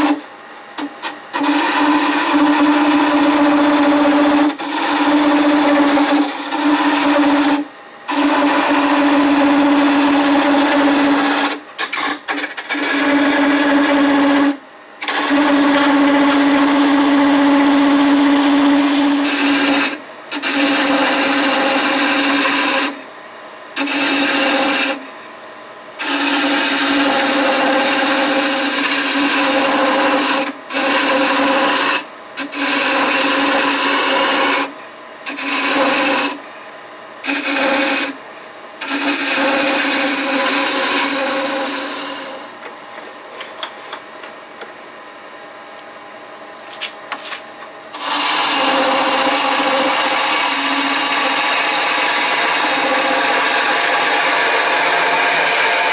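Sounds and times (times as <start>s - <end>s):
wood lathe hum: 0.0s - 23.1s, 23.8s - 25.2s, 26.0s - 36.5s, 37.2s - 44.7s, 46.7s - 55.9s
gouge scraping spinning wood: 0.8s - 23.0s, 23.8s - 25.0s, 26.0s - 36.4s, 37.2s - 38.2s, 38.8s - 42.7s, 46.7s - 55.9s.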